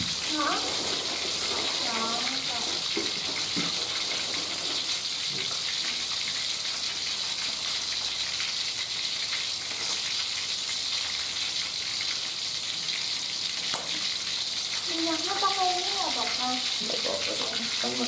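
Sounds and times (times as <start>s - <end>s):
chicken frying in oil: 0.0s - 18.0s
crackles and spits of oil: 0.0s - 18.0s.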